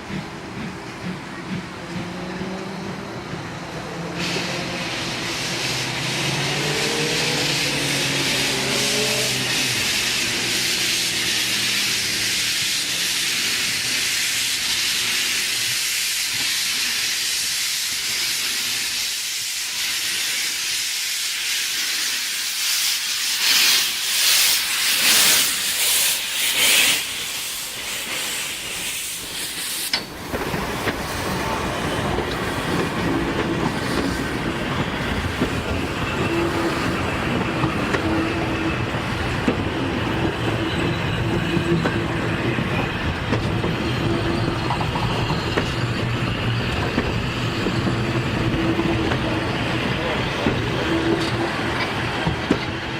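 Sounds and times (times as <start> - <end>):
steam locomotive hissing: 0.0 - 52.9.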